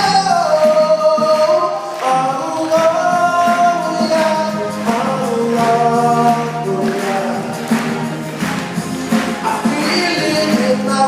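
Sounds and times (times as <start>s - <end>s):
man singing long notes: 0.0s - 8.0s, 9.4s - 11.0s
backing music with percussion: 0.0s - 11.0s.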